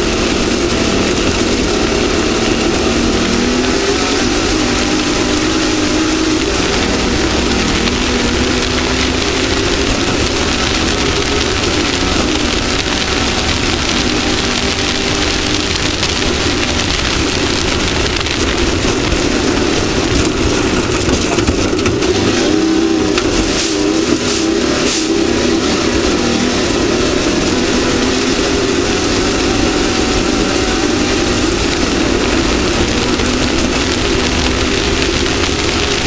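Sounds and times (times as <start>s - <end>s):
race vehicle engine running hard: 0.0s - 36.0s
steady rush of noise: 0.0s - 36.0s.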